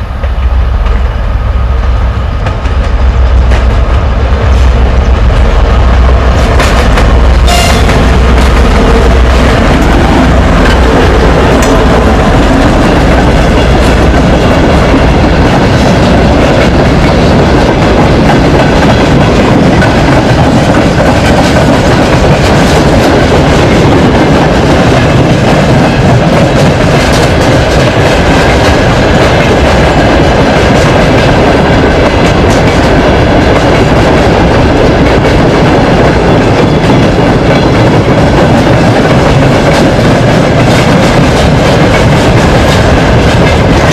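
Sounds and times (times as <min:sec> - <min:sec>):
diesel locomotive rumble: 0:00.0 - 0:43.9
train wheels clattering over rail joints: 0:06.2 - 0:43.9.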